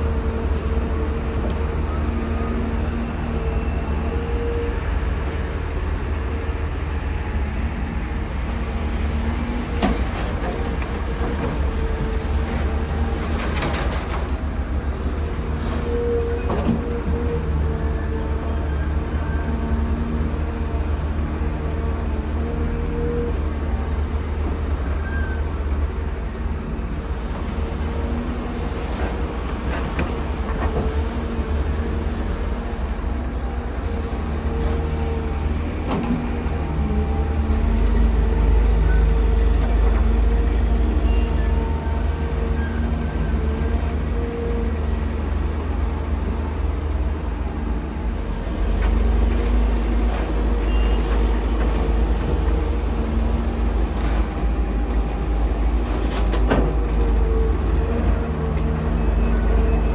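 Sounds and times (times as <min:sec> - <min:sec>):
excavator diesel engine rumbling: 0:00.0 - 0:59.9.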